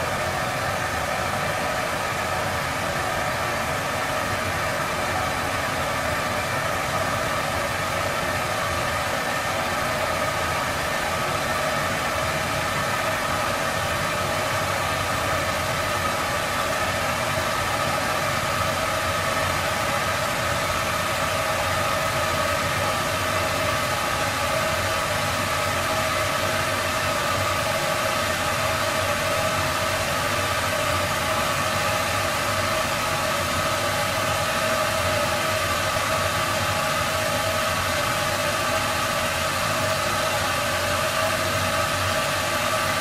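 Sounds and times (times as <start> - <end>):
droning noise with held tones: 0.0 - 43.0.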